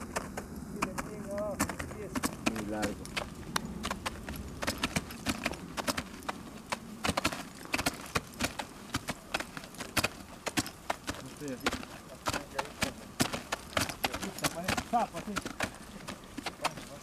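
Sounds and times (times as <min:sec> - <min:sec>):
ice axes striking snow: 0:00.0 - 0:17.0.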